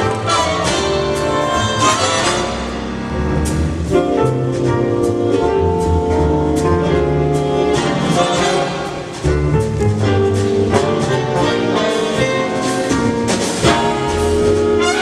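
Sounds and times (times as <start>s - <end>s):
brass section chords: 0.0s - 9.1s, 10.0s - 15.0s
big band playing jazz: 0.0s - 15.0s.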